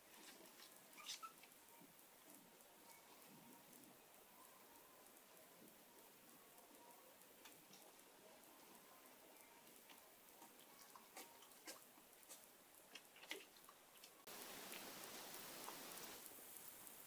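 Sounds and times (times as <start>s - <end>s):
low hiss: 0.0s - 17.0s.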